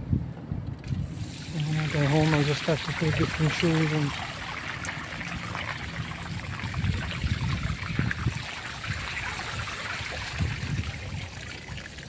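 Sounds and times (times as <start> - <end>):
floodwater rushing: 1.0 - 12.0.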